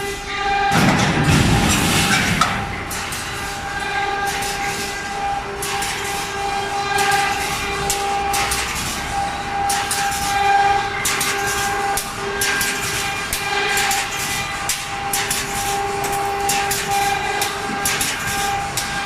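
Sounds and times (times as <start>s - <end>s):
welding machine clacks: 0.7s - 19.0s.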